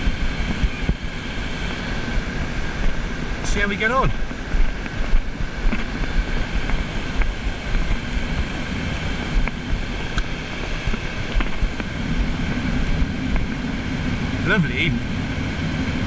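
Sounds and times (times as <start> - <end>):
surf washing: 0.0 - 16.0
wind buffeting microphone: 0.0 - 16.0.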